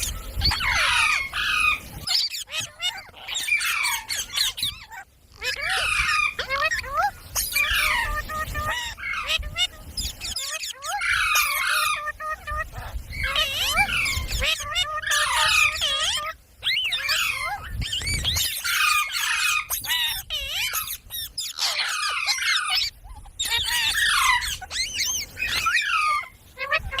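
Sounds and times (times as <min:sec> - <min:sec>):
parrot chattering: 0:00.0 - 0:27.0.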